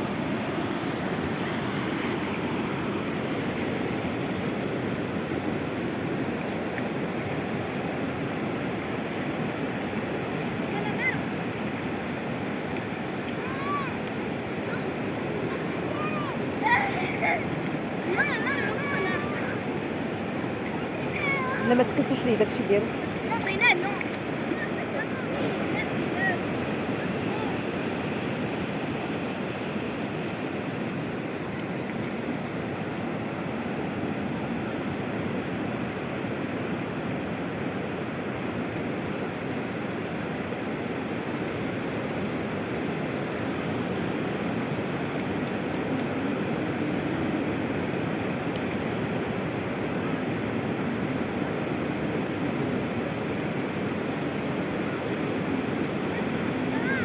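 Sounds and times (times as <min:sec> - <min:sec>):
sea surf washing: 0:00.0 - 0:57.0.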